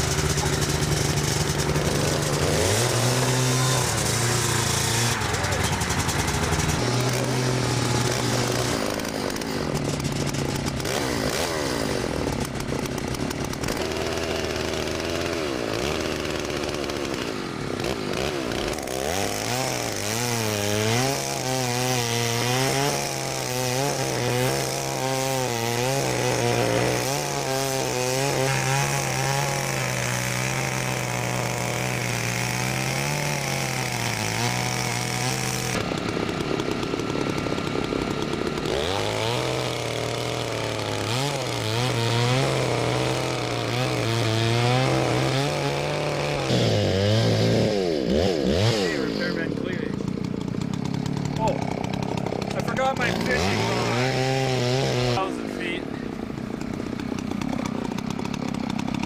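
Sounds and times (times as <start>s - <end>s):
chainsaw cutting snow: 0.0s - 59.0s.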